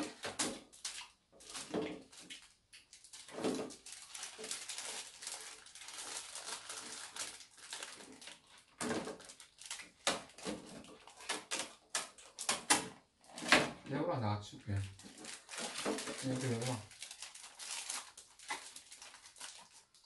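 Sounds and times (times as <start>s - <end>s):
plastic wrappers crinkling: 0.0s - 13.6s, 14.7s - 20.0s.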